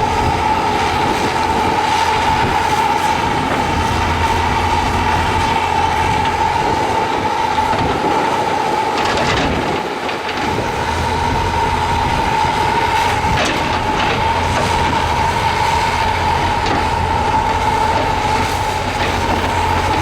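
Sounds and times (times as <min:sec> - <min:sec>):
diesel engine under load: 0:00.0 - 0:20.0
high hydraulic whine: 0:00.0 - 0:20.0.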